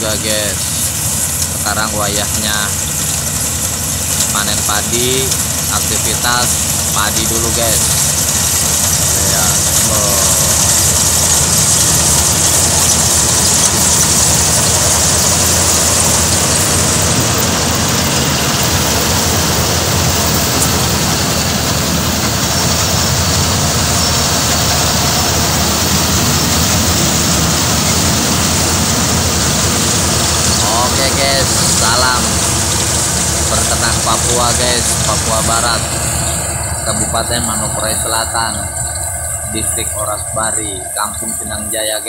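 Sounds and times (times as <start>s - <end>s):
combine harvester running: 0.0s - 42.0s.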